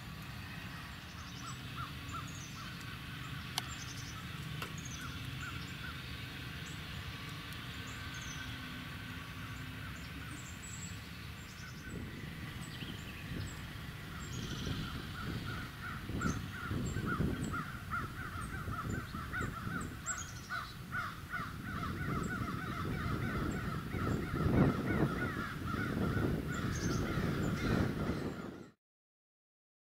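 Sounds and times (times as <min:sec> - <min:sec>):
birds calling harshly: 0:00.4 - 0:28.8.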